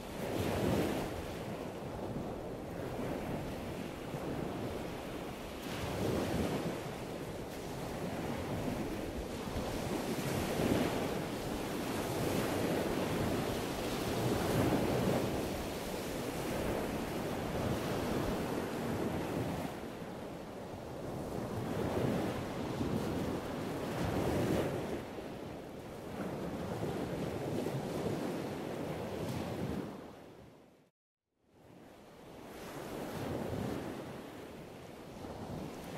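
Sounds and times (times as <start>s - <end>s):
wind rushing over microphone: 0.0s - 30.7s.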